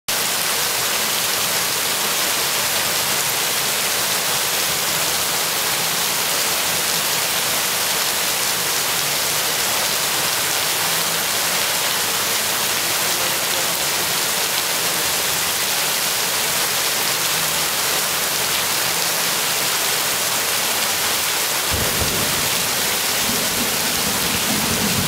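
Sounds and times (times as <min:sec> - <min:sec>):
rain pouring: 0:00.1 - 0:25.0.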